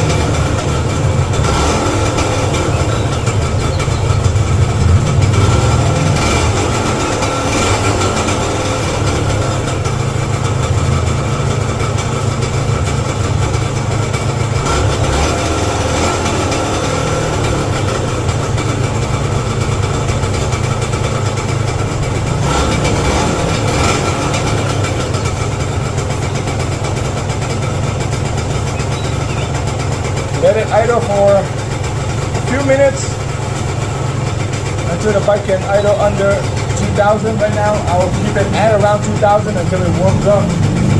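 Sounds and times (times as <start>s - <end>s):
two-stroke engine fast idle: 0.0s - 40.9s.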